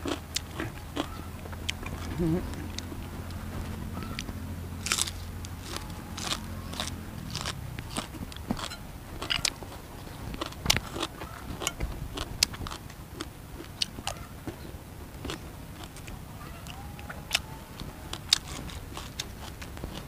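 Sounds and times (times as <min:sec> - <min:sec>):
person chewing crunchy vegetables: 0:00.0 - 0:20.0.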